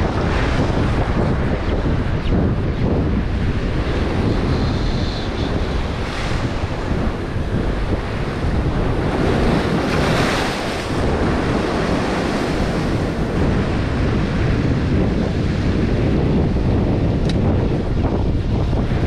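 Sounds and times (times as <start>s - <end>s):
heavy choppy surf: 0.0s - 19.0s
wind buffeting microphone: 0.0s - 19.0s.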